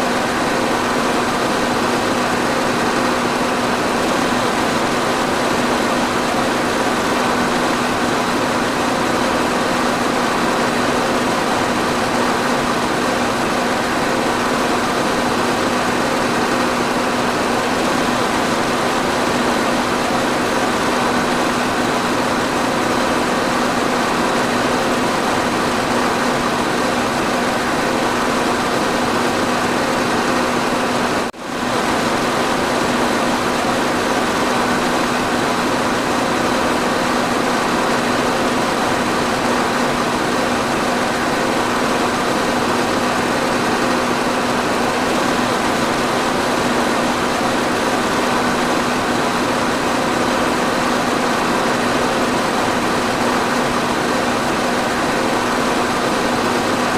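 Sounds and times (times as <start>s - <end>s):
electric fan running: 0.0s - 56.9s.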